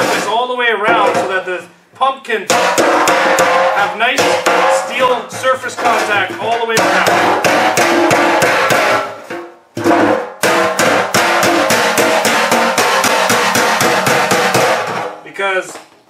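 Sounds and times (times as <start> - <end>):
hammer striking sheet metal: 0.0 - 1.4, 2.5 - 15.2.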